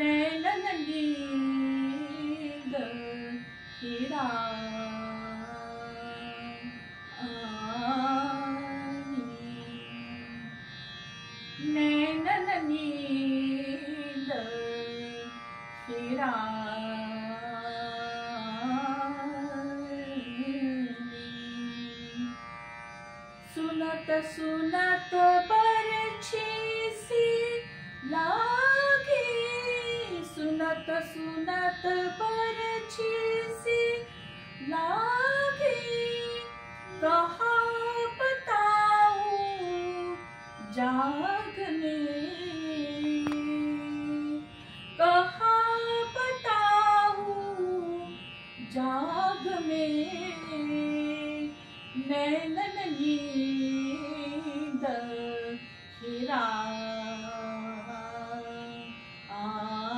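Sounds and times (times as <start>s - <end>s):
woman singing: 0.0s - 10.6s, 11.6s - 22.4s, 23.5s - 59.9s.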